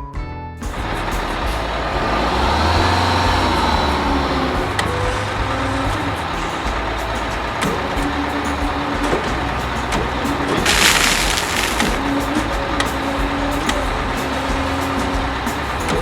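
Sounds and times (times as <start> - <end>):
truck engine running: 0.7 - 16.0.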